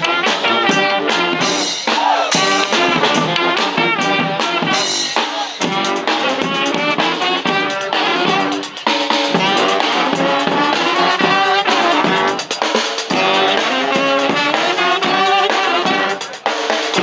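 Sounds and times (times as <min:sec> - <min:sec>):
brass band horns: 0:00.0 - 0:17.0
drum beat: 0:00.0 - 0:17.0.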